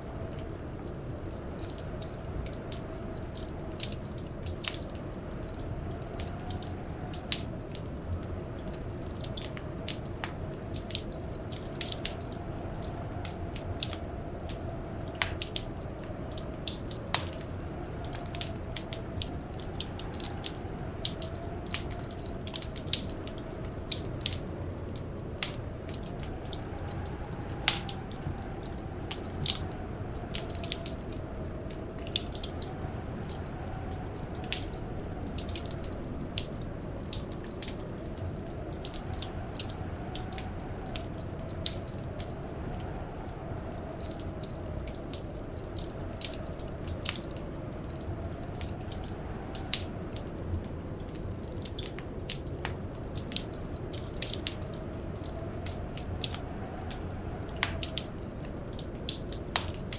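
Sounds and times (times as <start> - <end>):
soft wind howl: 0.0 - 59.9
wood fire crackling and popping: 0.1 - 59.9.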